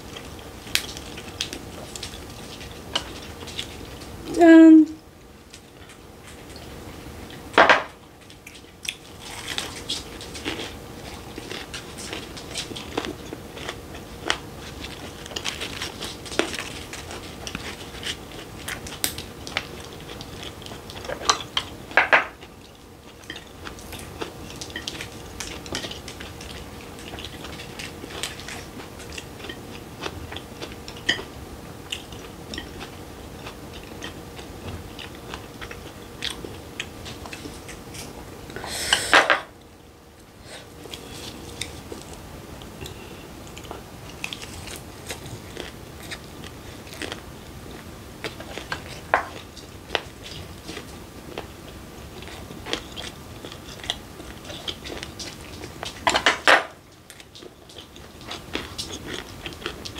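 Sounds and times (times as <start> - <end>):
chewing and crunching: 0.0 - 4.2, 5.4 - 38.6, 40.6 - 59.9.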